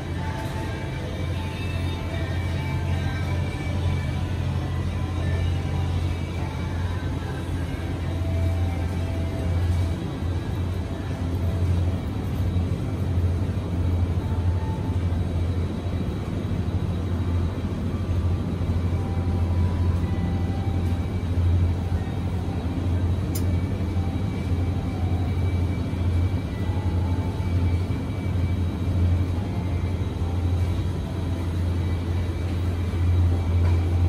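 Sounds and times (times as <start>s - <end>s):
faint in-store music: 0.0s - 34.0s
refrigeration units droning: 0.0s - 34.0s.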